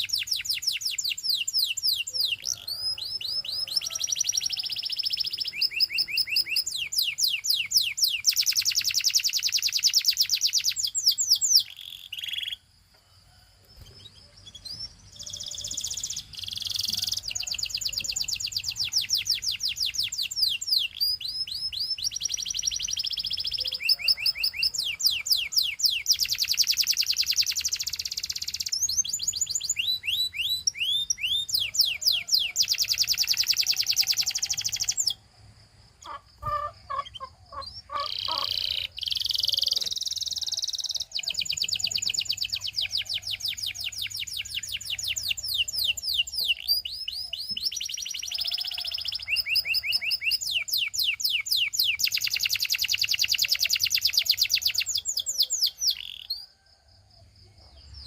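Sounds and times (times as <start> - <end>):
canary singing: 0.0 - 12.7, 13.7 - 35.3, 36.0 - 56.5.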